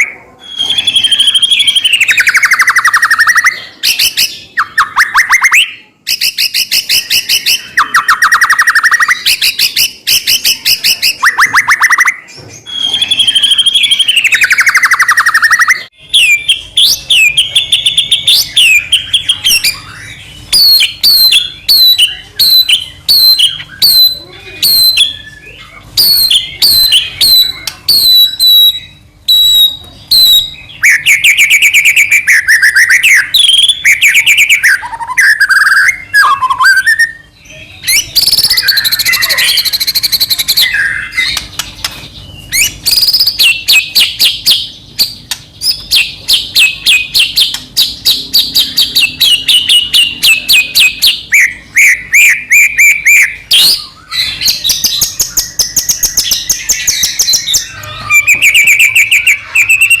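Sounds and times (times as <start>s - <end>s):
bird singing varied song: 0.0s - 60.0s.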